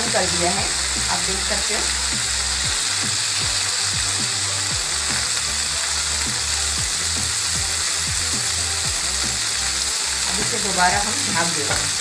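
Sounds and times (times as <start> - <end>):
skewers sizzling in hot oil: 0.0 - 12.0
thumping background music beat: 0.0 - 12.0.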